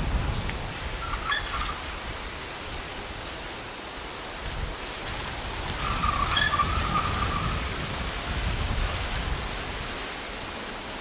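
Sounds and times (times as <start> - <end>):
car tyre noise with whine: 0.0 - 11.0
steady rushing noise: 0.0 - 11.0.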